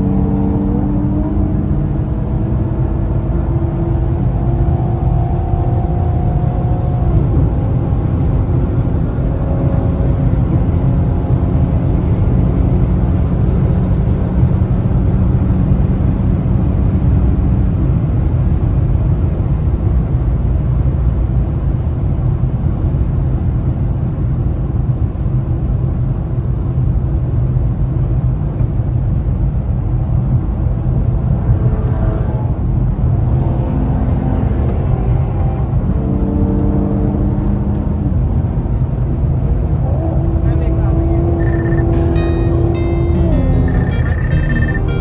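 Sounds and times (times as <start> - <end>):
car engine: 0.0 - 45.0
road noise: 0.0 - 45.0.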